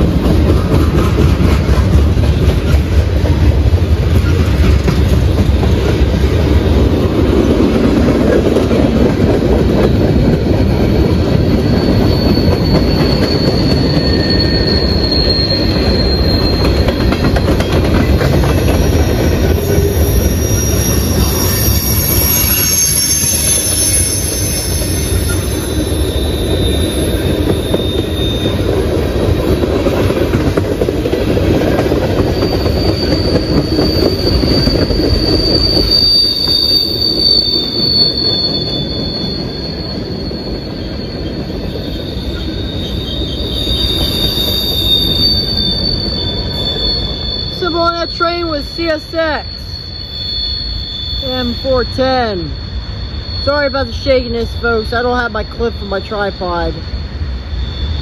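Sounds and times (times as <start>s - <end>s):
freight cars rumbling: 0.0s - 49.9s
high-pitched wheel squeals: 4.1s - 58.0s.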